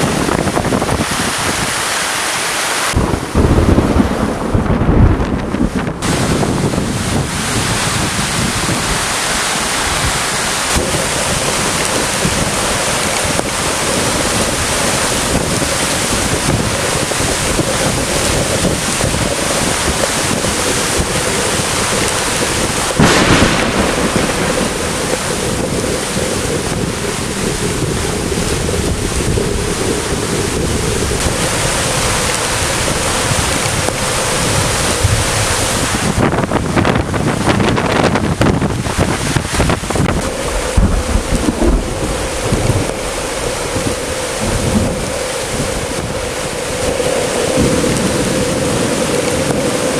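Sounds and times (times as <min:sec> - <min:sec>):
heavy rain: 0:00.0 - 0:49.9
wind buffeting microphone: 0:00.0 - 0:49.9.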